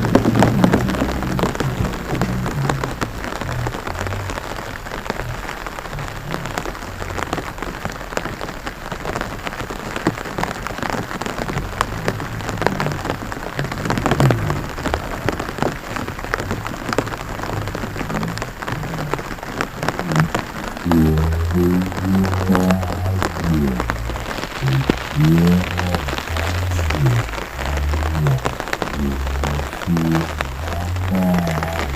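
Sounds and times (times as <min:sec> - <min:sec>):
rain pattering on water: 0:00.0 - 0:31.9.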